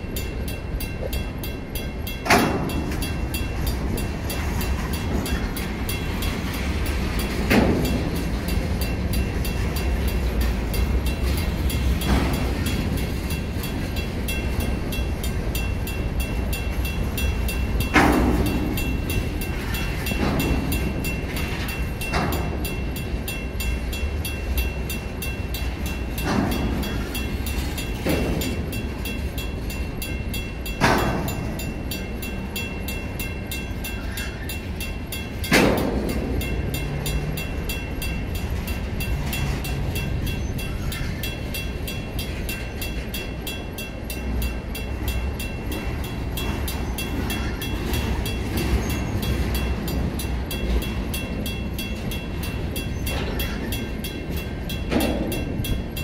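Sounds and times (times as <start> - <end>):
crossing bell ringing: 0.0 - 56.0
train wheels rumbling on rail: 0.0 - 56.0
wheels clunking over rail joint: 0.0 - 56.0.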